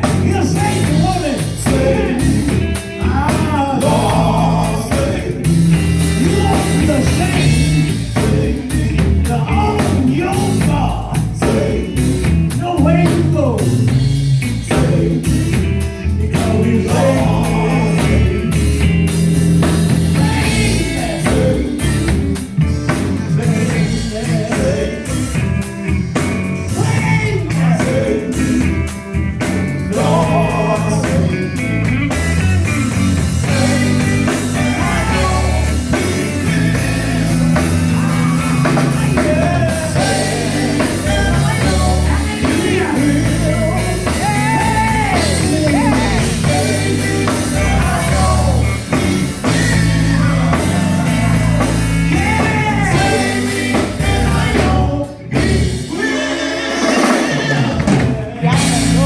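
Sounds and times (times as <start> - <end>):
live gospel band playing: 0.0 - 59.0.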